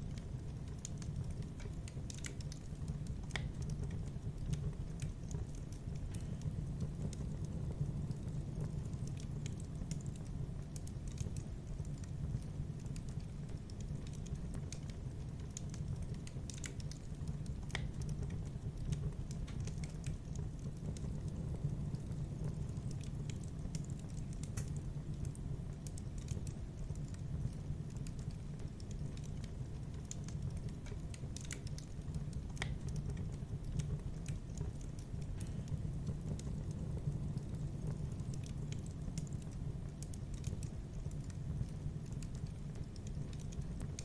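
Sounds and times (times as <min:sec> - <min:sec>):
fire crackling and popping: 0:00.0 - 0:44.0.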